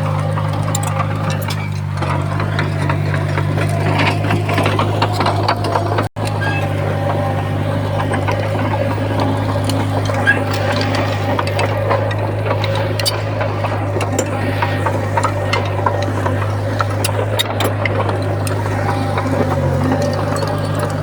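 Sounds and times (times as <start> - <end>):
bulldozer diesel engine droning: 0.0 - 21.0
machinery clicking and rattling: 0.0 - 21.0.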